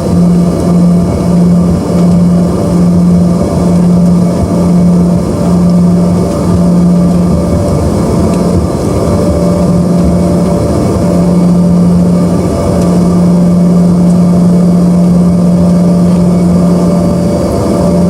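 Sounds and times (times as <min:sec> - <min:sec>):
jet engine roar in cabin: 0:00.0 - 0:18.0
low hum: 0:00.0 - 0:18.0.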